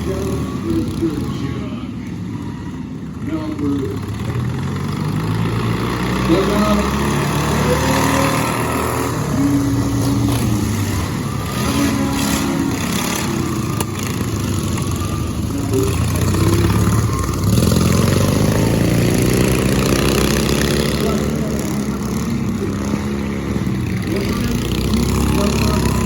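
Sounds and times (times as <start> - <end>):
lawn mower engines revving: 0.0 - 26.0.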